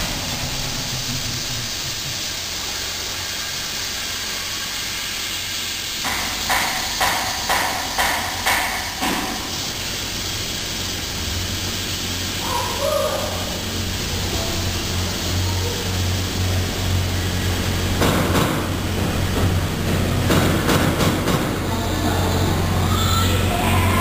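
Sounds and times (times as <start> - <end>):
sharp air puffs: 0.0 - 21.7
compressor hissing air: 0.0 - 24.0.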